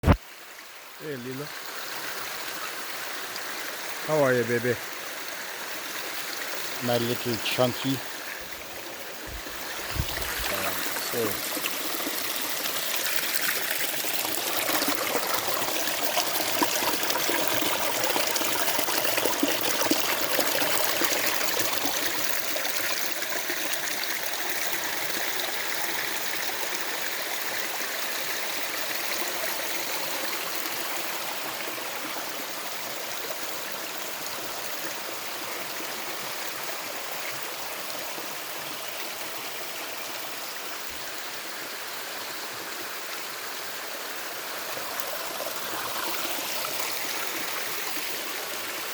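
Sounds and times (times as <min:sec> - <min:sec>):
stream water running: 0:00.0 - 0:48.9.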